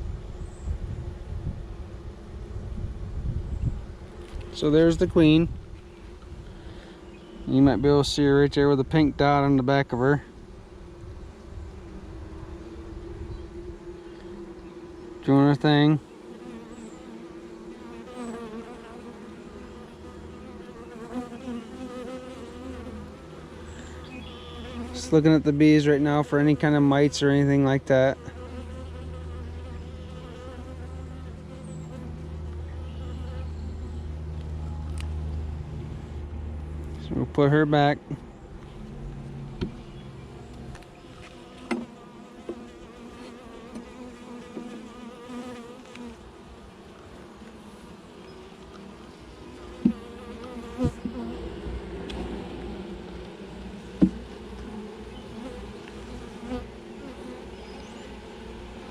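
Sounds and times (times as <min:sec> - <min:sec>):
honey bees buzzing: 0:00.0 - 0:36.9, 0:37.5 - 0:58.9.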